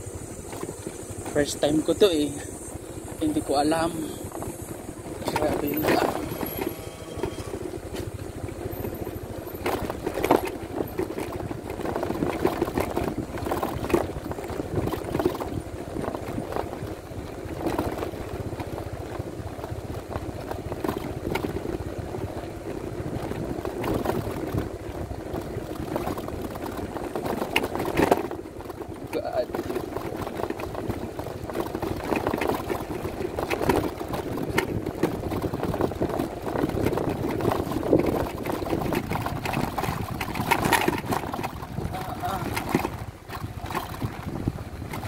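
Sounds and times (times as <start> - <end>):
scooter engine running: 0.0 - 45.0
knocks and rattles from bumps: 3.0 - 18.9, 19.6 - 45.0.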